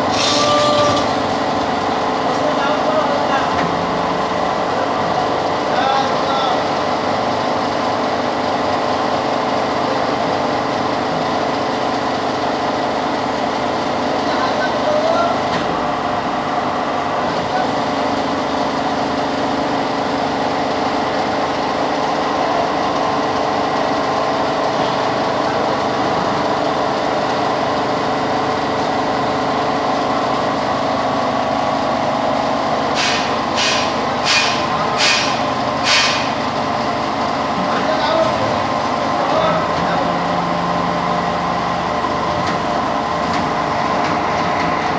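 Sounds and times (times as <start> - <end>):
workshop machinery humming: 0.0 - 44.9.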